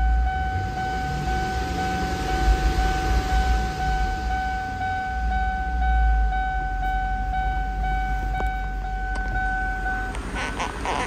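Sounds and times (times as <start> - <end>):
car engine idling: 0.0 - 11.0
steady high-pitched tone: 0.0 - 11.0.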